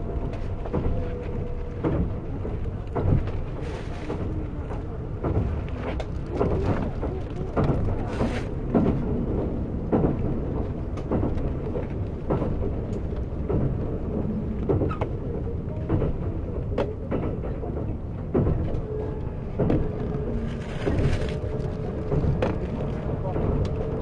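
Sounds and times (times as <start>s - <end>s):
train knocks and clicks: 0.0s - 24.0s
train wheels rumbling on rail: 0.0s - 24.0s.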